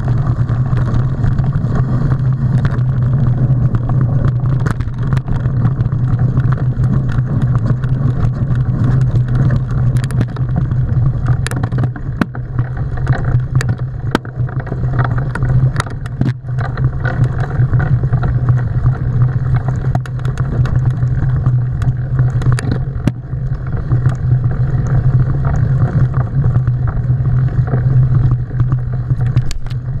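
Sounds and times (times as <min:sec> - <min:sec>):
bike clicks and knocks over bumps: 0:00.0 - 0:30.0
wind rumble on microphone: 0:00.0 - 0:30.0.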